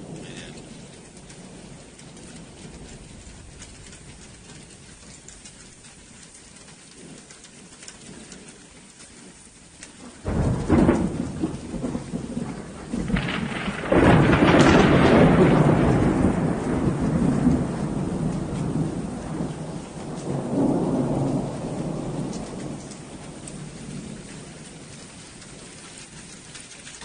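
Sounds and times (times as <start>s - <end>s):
hail and rain patter: 0.0s - 27.0s
rumbling storm noise: 0.0s - 27.0s.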